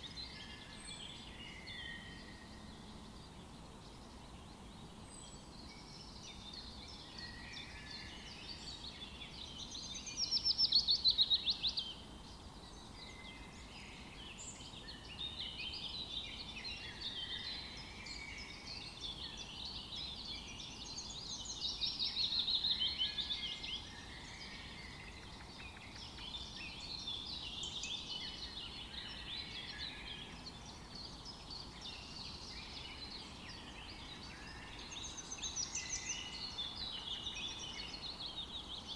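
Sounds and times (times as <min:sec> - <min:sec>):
birds chirping and singing: 0:00.0 - 0:38.9
faint steady hiss: 0:00.0 - 0:38.9
rapid trilled birdsong: 0:00.0 - 0:38.9.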